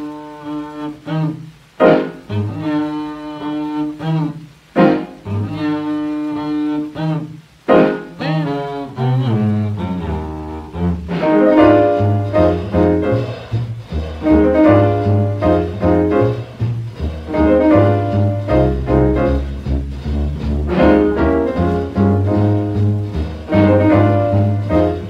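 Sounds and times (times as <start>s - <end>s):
bowed double bass: 0.0s - 25.0s
piano chords: 0.0s - 25.0s.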